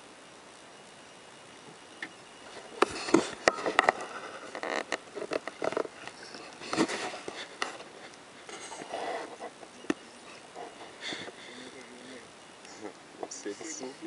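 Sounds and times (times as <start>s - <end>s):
rustling: 1.6s - 14.0s.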